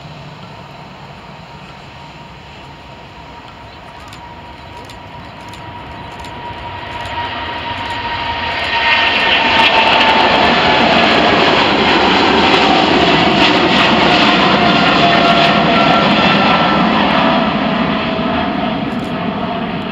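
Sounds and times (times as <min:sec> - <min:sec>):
jet engine roar at takeoff: 0:00.0 - 0:19.9.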